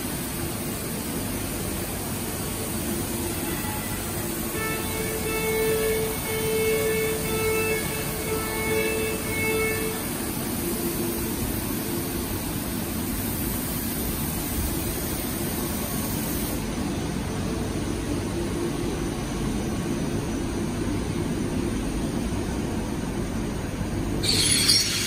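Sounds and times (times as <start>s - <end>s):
factory machinery drone: 0.0s - 25.0s.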